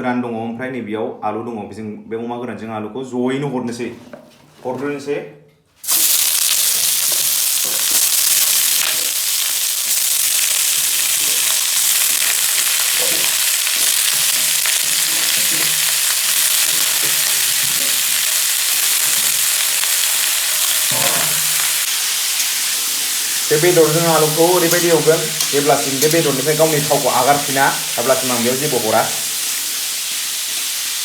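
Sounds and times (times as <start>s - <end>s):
food sizzling in oil: 5.8s - 31.0s.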